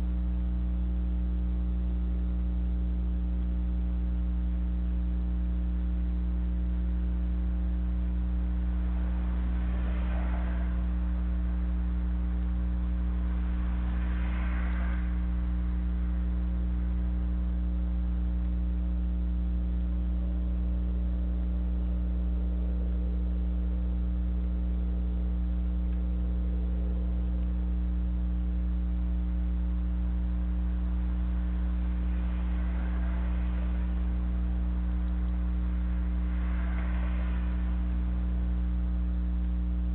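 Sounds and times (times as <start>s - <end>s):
low electrical hum: 0.0s - 39.9s
faint swells of noise: 5.8s - 39.9s.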